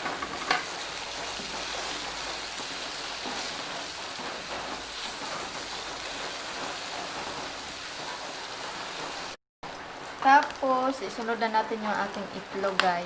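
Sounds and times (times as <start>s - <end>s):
bacon sizzling in frying pan: 0.0s - 13.0s.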